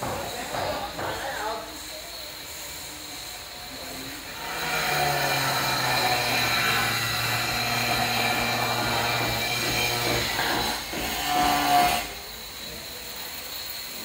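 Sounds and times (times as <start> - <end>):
power tool humming and hissing: 0.9 - 14.0.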